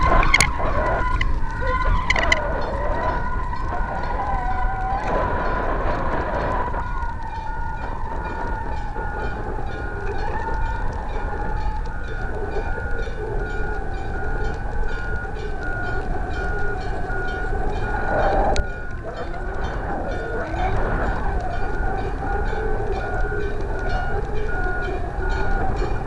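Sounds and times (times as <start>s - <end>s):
steady wavering high tone: 0.0s - 26.0s
wind rushing over microphone: 0.0s - 26.0s.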